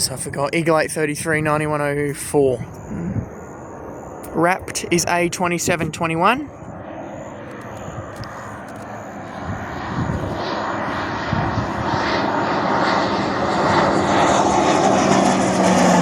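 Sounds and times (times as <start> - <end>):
jet aircraft rushing noise: 0.0 - 16.0.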